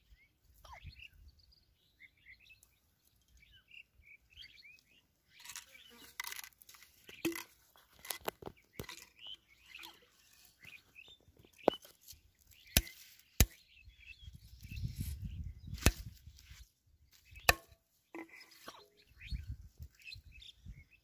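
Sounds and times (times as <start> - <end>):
birds chirping faintly: 0.0 - 21.0.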